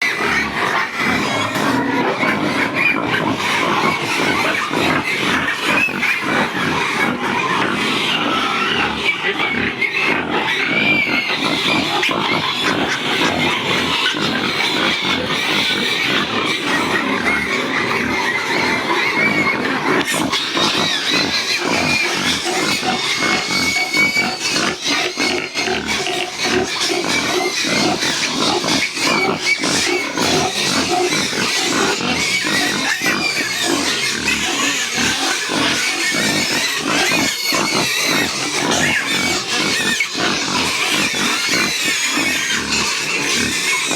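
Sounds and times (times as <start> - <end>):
pigs grunting and squealing: 0.0 - 43.9.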